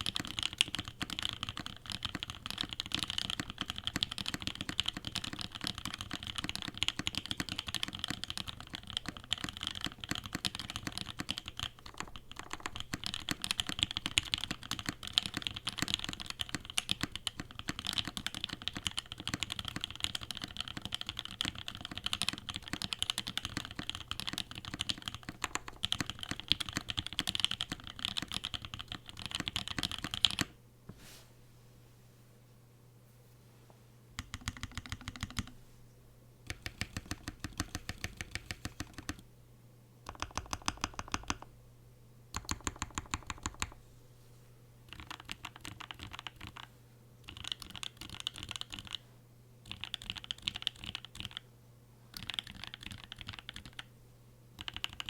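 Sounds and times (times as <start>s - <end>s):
mechanical keyboard typing: 0.0s - 30.5s, 34.2s - 35.5s, 36.5s - 39.2s, 40.1s - 41.5s, 42.3s - 43.8s, 44.9s - 49.0s, 49.6s - 51.4s, 52.1s - 53.9s, 54.6s - 55.0s.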